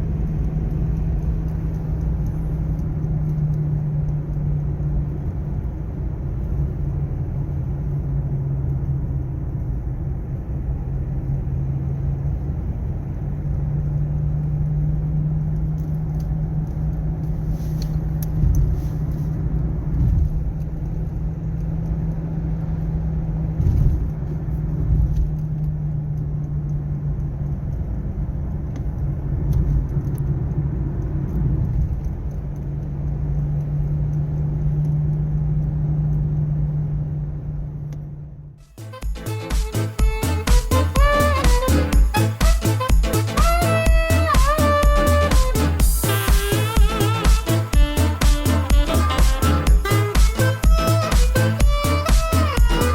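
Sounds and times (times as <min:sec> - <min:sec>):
car interior drone: 0:00.0 - 0:52.9
rumbling road noise: 0:00.0 - 0:52.9.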